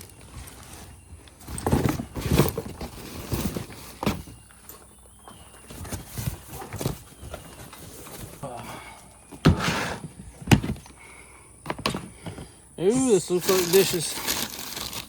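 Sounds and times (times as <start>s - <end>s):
objects rustling and knocking: 0.0s - 11.0s, 11.6s - 15.0s.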